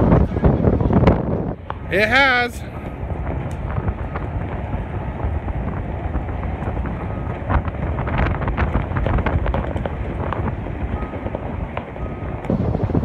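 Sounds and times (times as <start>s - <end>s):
low vehicle rumble: 0.0s - 13.0s
wind buffeting microphone: 0.0s - 13.0s.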